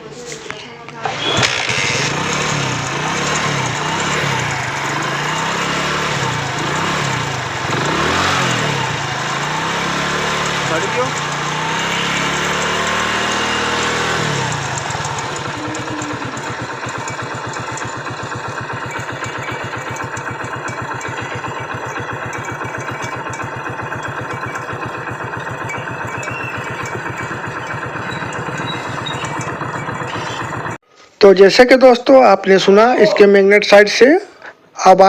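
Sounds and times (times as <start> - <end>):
fine engine ticking: 1.1 - 30.8
motorcycle engine idling: 1.1 - 30.8.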